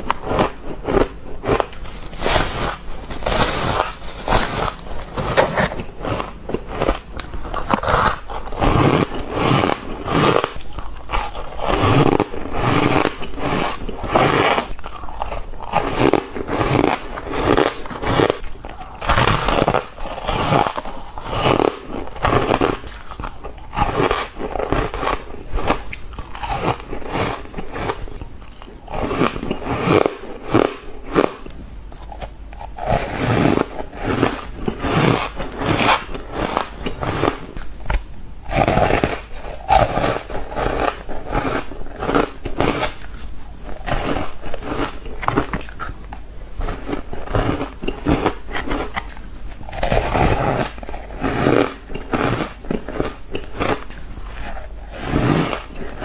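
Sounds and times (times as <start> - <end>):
ice being chewed and crunched: 0.0 - 56.0.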